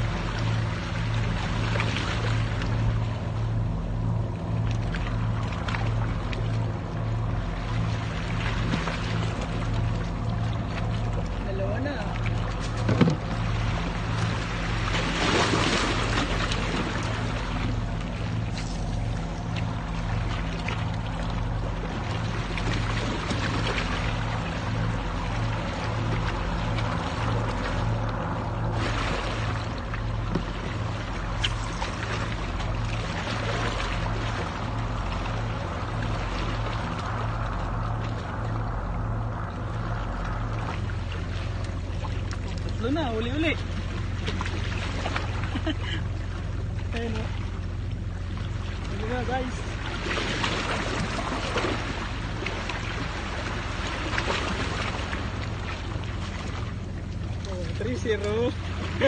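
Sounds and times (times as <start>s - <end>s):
constant low hum: 0.0s - 59.0s
faint splashes: 0.0s - 59.0s
low rumble: 0.0s - 59.0s
wind: 0.0s - 59.0s
sea water washing on rocks: 4.9s - 46.0s, 46.8s - 59.0s.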